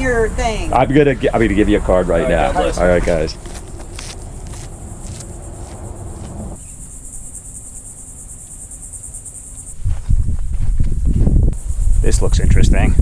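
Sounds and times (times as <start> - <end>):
insects trilling: 2.0 - 13.0.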